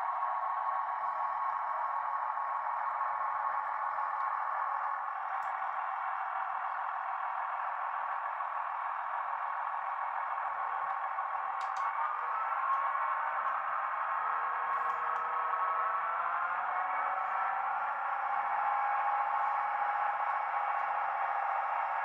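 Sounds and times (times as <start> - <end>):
model train diesel engine sound: 0.0 - 22.0.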